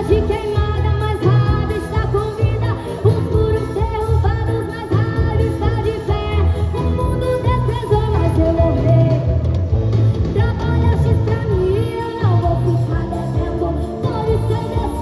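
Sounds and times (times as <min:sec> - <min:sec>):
live band playing gospel song: 0:00.0 - 0:15.0.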